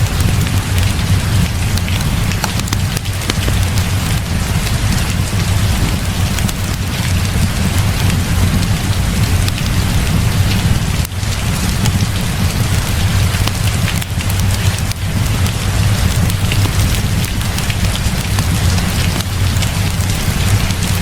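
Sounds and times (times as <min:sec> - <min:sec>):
small sharp ticks: 0:00.0 - 0:08.6, 0:11.0 - 0:21.0
heavy rain pouring: 0:00.0 - 0:21.0.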